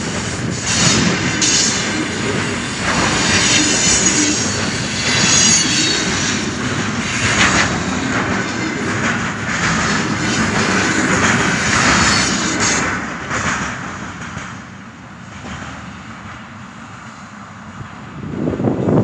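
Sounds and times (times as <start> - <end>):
freight train rolling over rails: 0.0 - 19.0.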